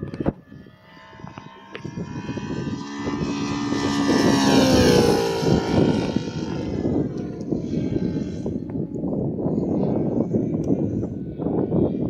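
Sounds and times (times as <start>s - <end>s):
model plane engine flying past: 0.0s - 12.0s.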